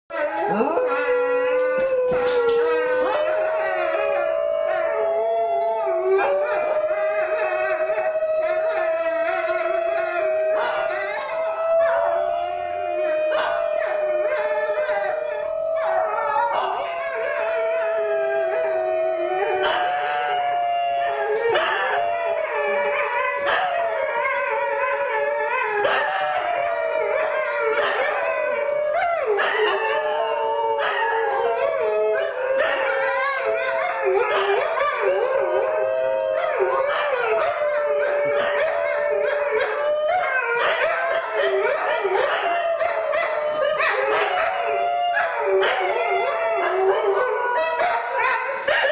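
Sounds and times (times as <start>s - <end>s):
dogs howling in chorus: 0.1s - 48.9s.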